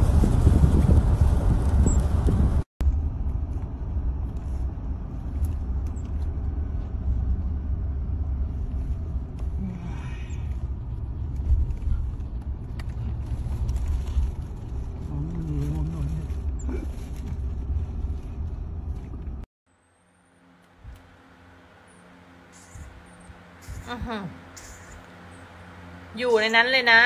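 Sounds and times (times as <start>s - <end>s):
car road noise: 0.0s - 27.0s.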